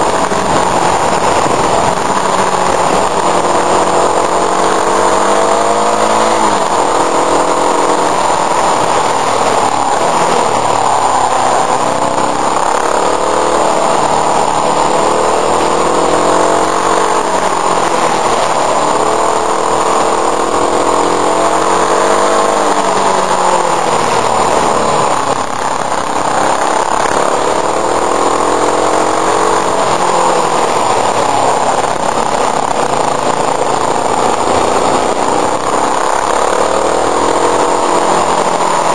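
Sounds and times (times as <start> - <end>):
motorcycle engine revving: 0.0 - 38.9
wind rushing at microphone: 0.0 - 38.9.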